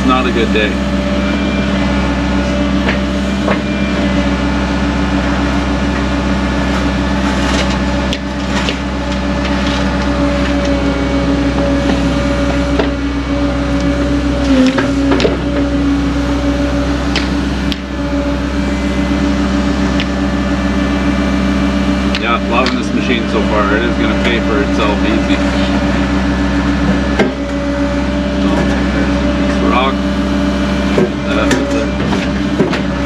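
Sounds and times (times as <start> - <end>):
excavator diesel engine and hydraulics: 0.0 - 33.0.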